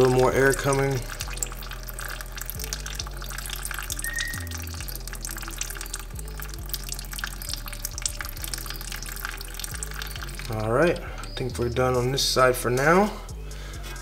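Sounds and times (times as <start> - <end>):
fluid sputtering and trickling: 0.0 - 11.8
background music with bass line: 0.0 - 14.0.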